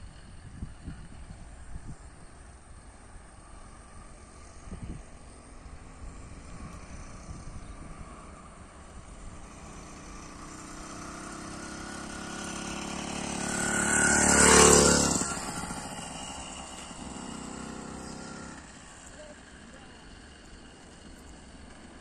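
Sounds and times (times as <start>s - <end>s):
motorized bicycle engine passing: 0.0s - 22.0s.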